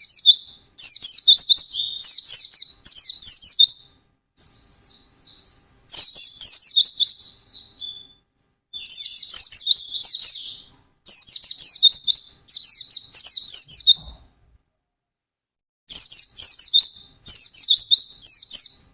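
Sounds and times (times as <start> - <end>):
bird singing whistled notes: 0.0 - 14.3, 15.9 - 18.9.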